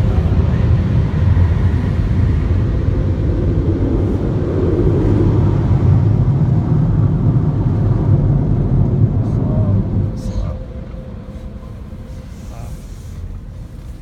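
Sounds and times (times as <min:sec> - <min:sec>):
car wash machinery rumble: 0:00.0 - 0:14.0.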